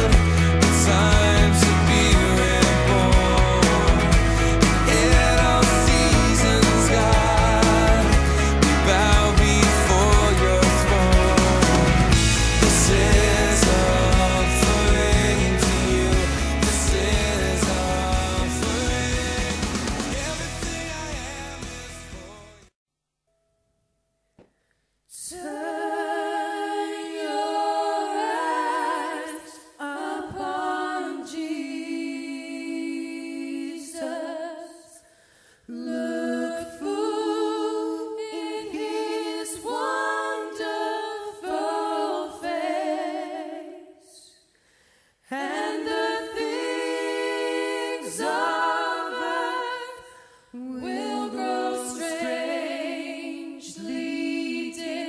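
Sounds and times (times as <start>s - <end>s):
person singing a cappella: 0.0s - 22.7s, 25.1s - 44.4s, 45.3s - 55.0s.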